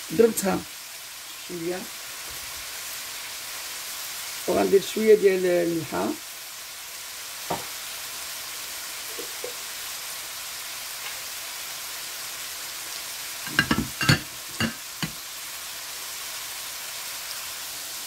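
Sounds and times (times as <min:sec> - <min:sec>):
vegetables sizzling in a frying pan: 0:00.0 - 0:18.0.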